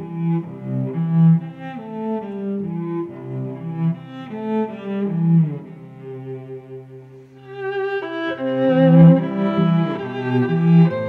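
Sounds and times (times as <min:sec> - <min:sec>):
low bowed strings melody: 0:00.0 - 0:11.0.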